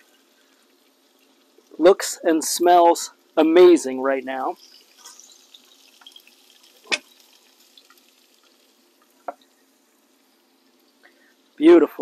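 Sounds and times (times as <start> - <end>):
meat sizzling and crackling: 0.0 - 11.8.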